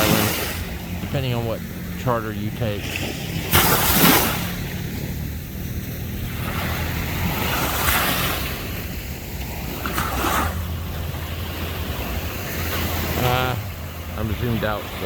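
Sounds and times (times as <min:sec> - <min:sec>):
steady low hum: 0:00.0 - 0:15.0
surf washing onto sandy beach: 0:00.0 - 0:15.0.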